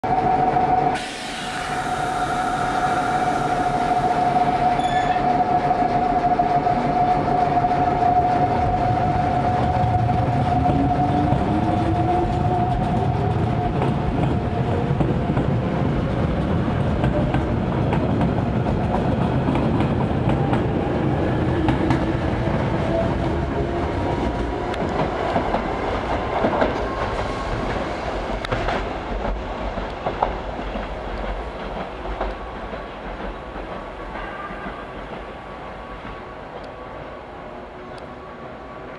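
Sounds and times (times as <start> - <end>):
electric train hum and whine: 0.0 - 38.9
rumble of running train: 0.0 - 38.9.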